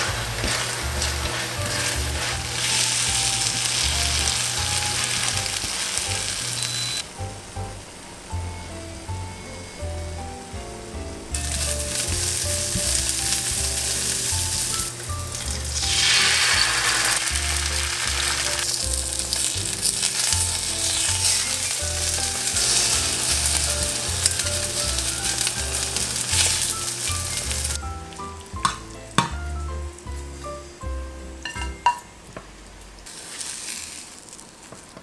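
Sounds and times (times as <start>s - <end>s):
eggs sizzling in oil: 0.0s - 32.4s, 33.0s - 35.0s.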